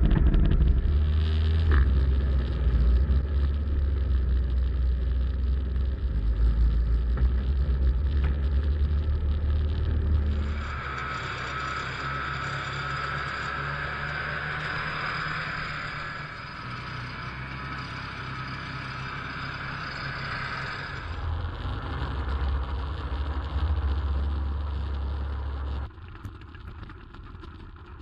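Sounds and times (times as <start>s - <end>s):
snowmobile engine running: 0.0s - 25.9s.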